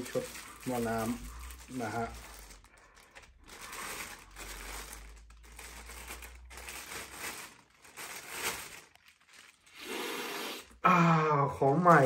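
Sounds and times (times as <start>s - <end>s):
plastic packaging crinkling: 0.0s - 9.8s, 11.6s - 12.0s.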